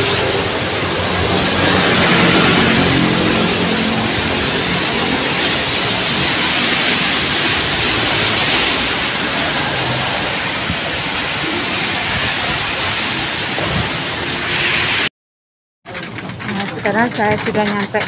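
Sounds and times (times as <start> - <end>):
car tyres swishing on wet road: 0.0 - 15.1
heavy rain hissing: 0.0 - 15.1.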